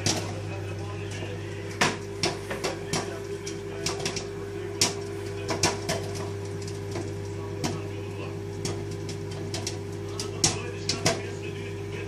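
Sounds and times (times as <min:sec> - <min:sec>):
microwave oven hum: 0:00.0 - 0:12.0
popcorn popping: 0:00.0 - 0:12.0.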